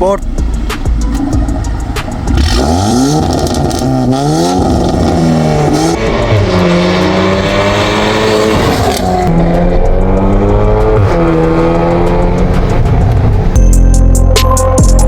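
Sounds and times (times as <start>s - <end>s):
car engine accelerating hard: 0.2s - 13.6s.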